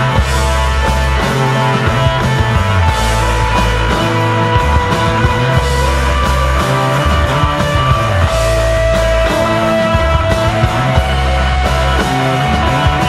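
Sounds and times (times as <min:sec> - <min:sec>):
bass guitar line: 0:00.0 - 0:13.0
drums: 0:00.0 - 0:13.0
electric guitar: 0:00.0 - 0:13.0.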